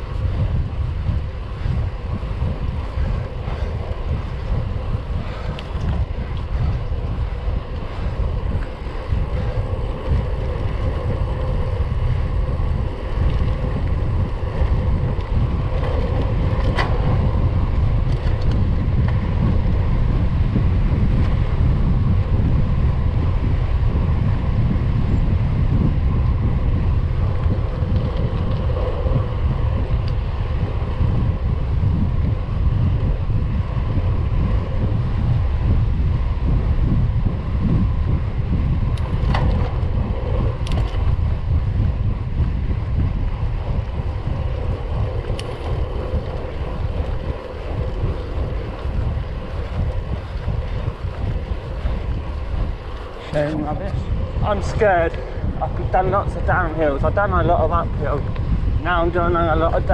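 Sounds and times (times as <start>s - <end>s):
wind rumbling on microphone: 0.0s - 59.9s.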